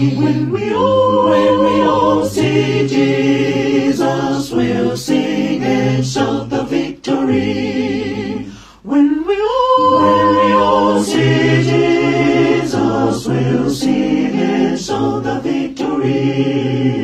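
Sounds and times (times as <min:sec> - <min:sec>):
a cappella harmony singing: 0:00.0 - 0:17.0.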